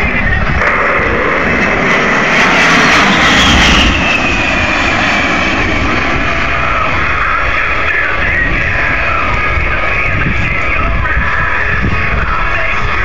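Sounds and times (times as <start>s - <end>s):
jet passing with whine and rumble: 0.0s - 13.0s.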